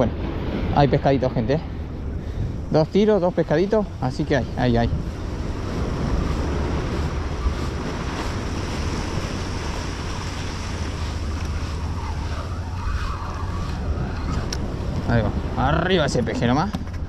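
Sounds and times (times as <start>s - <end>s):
sea surf washing: 0.0s - 17.0s
wind buffeting microphone: 0.0s - 17.0s.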